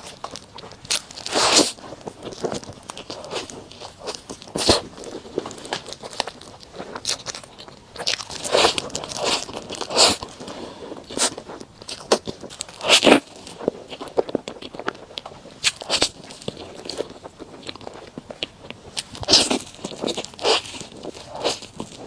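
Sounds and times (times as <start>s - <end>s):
chewing and mouth smacking: 0.0s - 22.0s.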